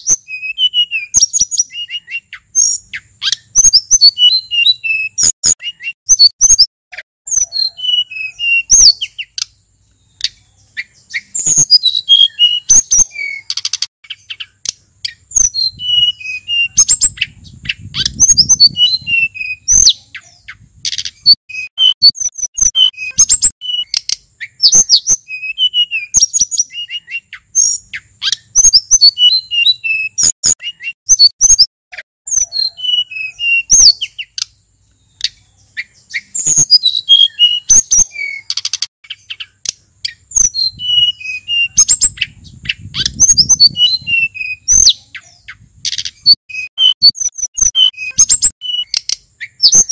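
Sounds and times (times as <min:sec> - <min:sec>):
bird singing chirps and whistles: 0:00.0 - 0:31.7, 0:32.3 - 0:49.9.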